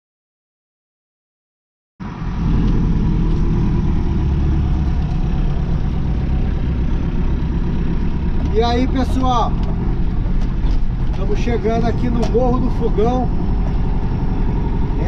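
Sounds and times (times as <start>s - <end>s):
truck engine running: 2.0s - 15.0s.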